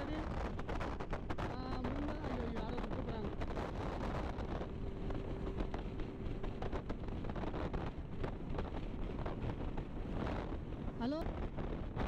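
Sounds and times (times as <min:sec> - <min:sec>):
motorcycle engine and road rumble: 0:00.0 - 0:12.0
wind buffeting microphone: 0:00.0 - 0:12.0.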